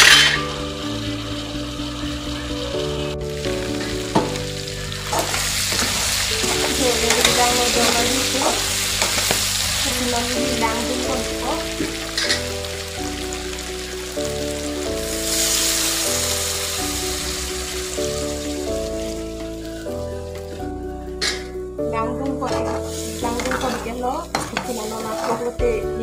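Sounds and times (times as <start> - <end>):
meat sizzling in a wok: 0.0 - 21.6, 22.8 - 25.5
background music: 0.0 - 26.0.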